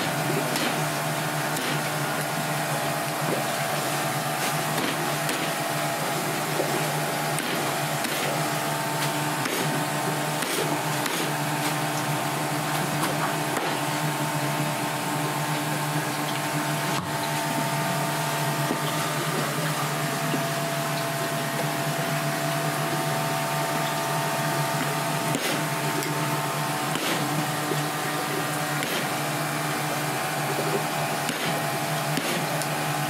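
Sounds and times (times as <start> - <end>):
kitchen equipment hum: 0.0 - 33.0.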